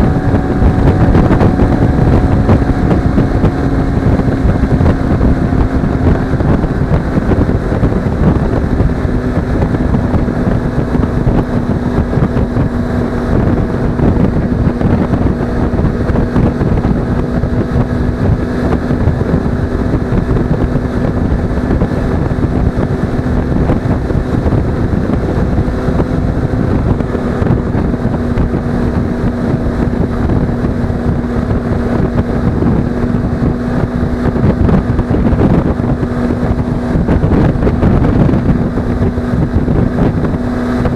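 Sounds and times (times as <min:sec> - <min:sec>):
motorcycle engine cruising: 0:00.0 - 0:40.9
wind buffeting microphone: 0:00.0 - 0:40.9.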